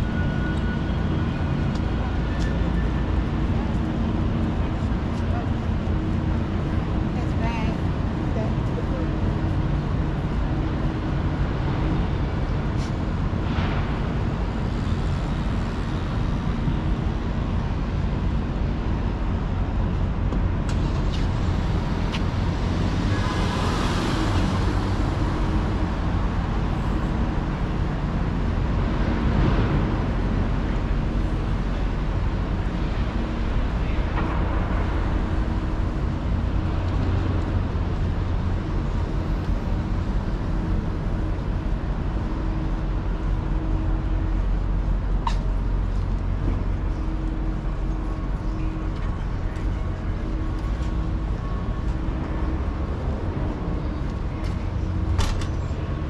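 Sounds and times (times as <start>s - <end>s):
low traffic engine hum: 0.0s - 56.0s
vehicles passing: 0.0s - 56.0s.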